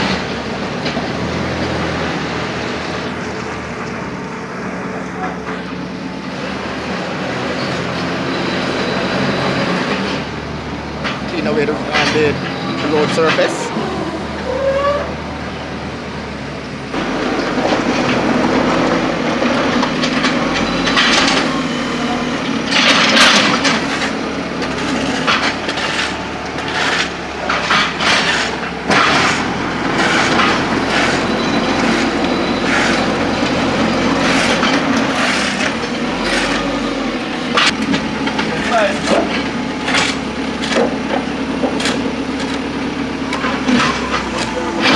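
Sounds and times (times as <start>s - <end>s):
engine humming: 0.0s - 44.9s
mud scraped off road: 0.0s - 44.9s.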